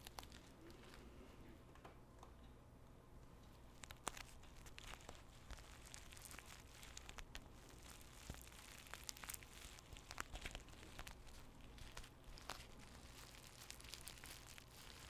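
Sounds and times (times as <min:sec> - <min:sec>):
tea bags crinkling: 0:00.0 - 0:01.2, 0:03.7 - 0:15.0.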